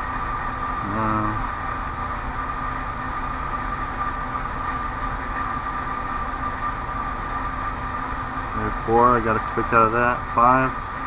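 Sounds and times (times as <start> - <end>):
constant high whine: 0.0 - 11.0
steady background hum: 0.0 - 11.0.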